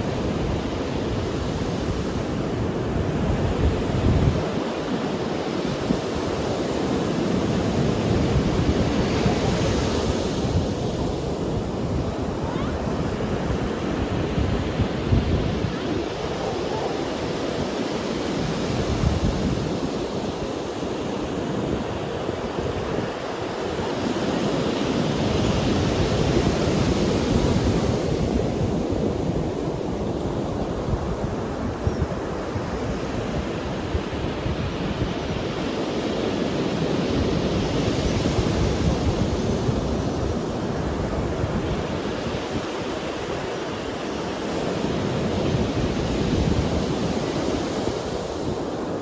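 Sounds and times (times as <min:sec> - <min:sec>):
sea waves breaking on beach: 0:00.0 - 0:49.0
wind rumbling on microphone: 0:00.0 - 0:49.0.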